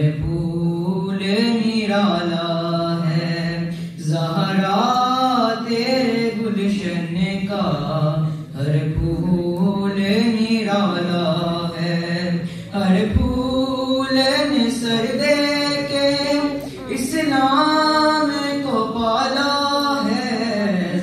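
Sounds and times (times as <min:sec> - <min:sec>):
boy chanting a lament: 0:00.0 - 0:21.0.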